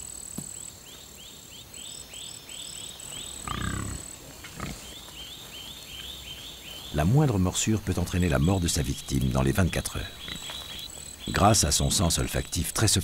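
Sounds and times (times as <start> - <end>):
high insect buzz: 0.0 - 6.8, 8.3 - 12.7.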